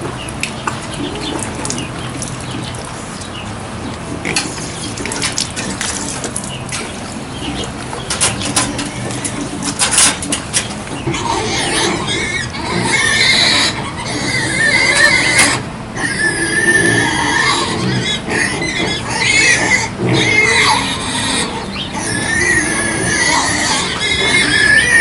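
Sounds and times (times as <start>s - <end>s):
animals squealing: 0.0s - 25.0s.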